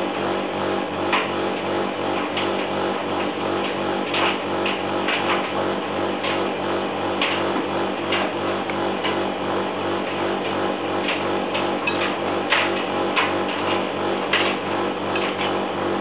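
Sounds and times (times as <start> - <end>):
washing machine motor humming: 0.0 - 16.0.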